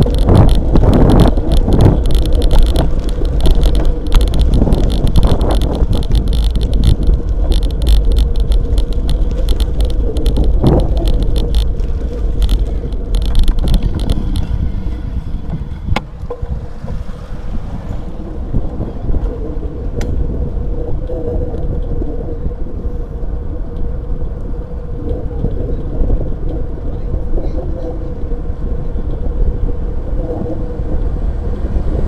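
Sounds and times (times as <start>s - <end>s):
bicycle rattling and clicking: 0.0s - 32.0s
wind rumble on microphone: 0.0s - 32.0s.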